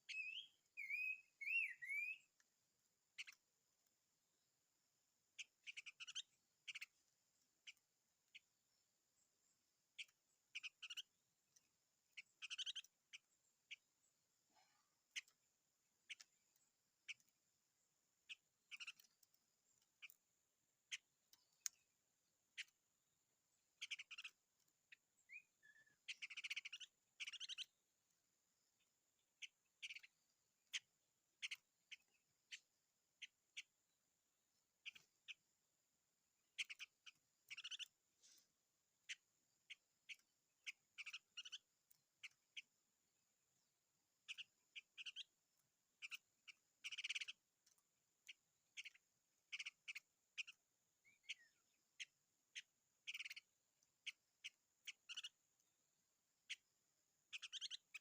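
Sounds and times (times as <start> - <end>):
small bird calling in trills: 0.0 - 2.5, 3.1 - 3.4, 5.3 - 17.4, 18.2 - 21.9, 22.5 - 22.8, 23.6 - 27.8, 28.8 - 34.0, 34.8 - 35.5, 36.4 - 42.8, 44.2 - 55.7, 56.4 - 58.0.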